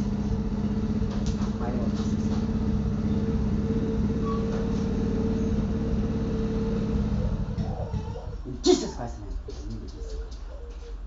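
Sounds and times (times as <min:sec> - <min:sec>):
low machine hum: 0:00.0 - 0:10.2.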